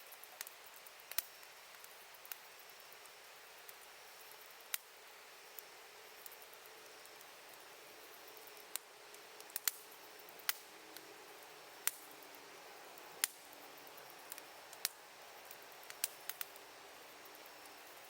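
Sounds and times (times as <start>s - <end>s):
campfire wood crackling: 0.0s - 18.0s
faint steady hiss: 0.0s - 18.0s.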